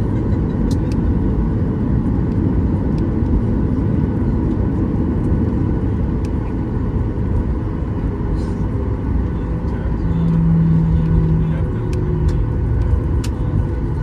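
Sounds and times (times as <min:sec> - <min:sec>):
jet engines and airflow rush: 0:00.0 - 0:14.0.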